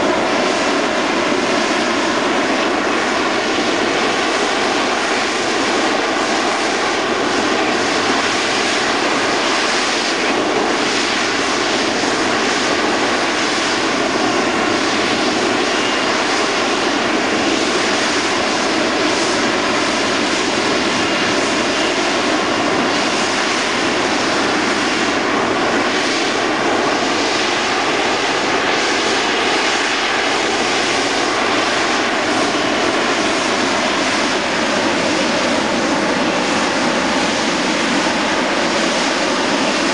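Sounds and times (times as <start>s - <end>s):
jet engine roaring with whine: 0.0s - 39.9s.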